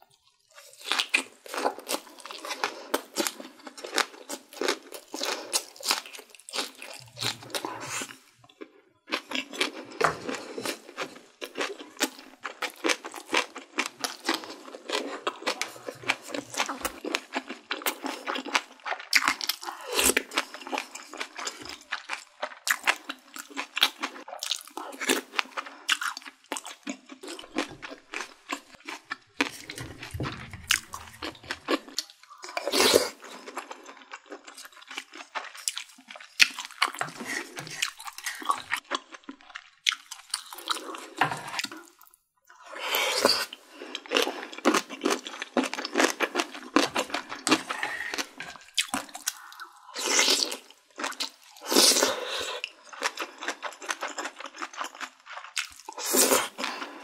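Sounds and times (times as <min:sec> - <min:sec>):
person chewing crunchy food: 0:00.1 - 0:57.0.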